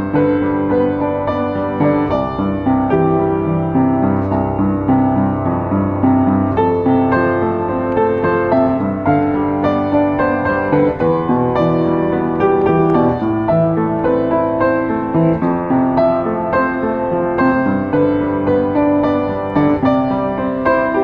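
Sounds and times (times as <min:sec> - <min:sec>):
piano piece: 0:00.0 - 0:21.0.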